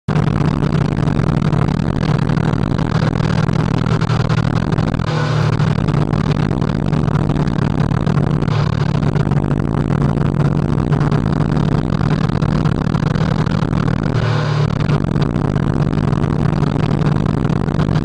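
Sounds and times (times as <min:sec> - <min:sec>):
motorcycle engine humming: 0:00.0 - 0:18.0.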